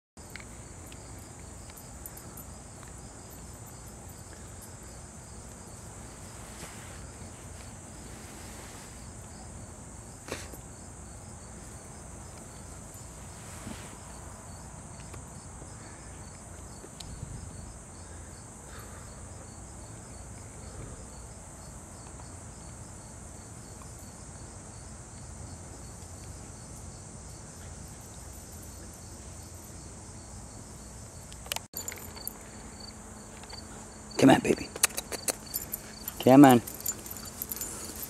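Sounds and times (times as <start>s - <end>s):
crickets chirping: 0.2s - 38.0s.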